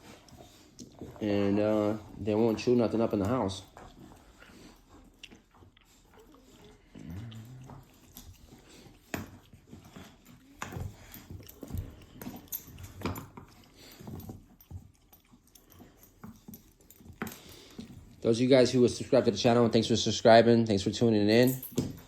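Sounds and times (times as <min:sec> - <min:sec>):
dogs gnawing on bones: 0:00.0 - 0:22.0.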